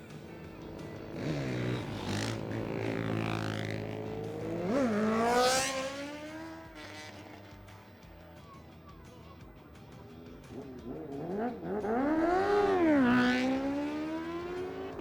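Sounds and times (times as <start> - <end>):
motorbike passing by: 0.0 - 7.8, 10.2 - 15.0
motorbike engines revving: 0.0 - 8.4, 9.4 - 15.0.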